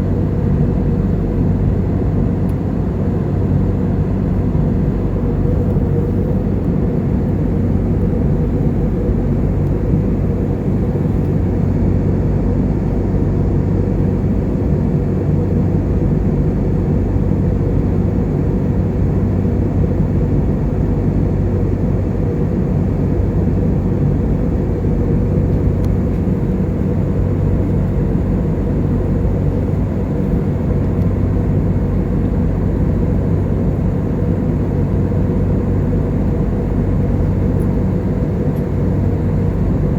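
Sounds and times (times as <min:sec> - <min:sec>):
jet cabin engine hum: 0:00.0 - 0:39.9.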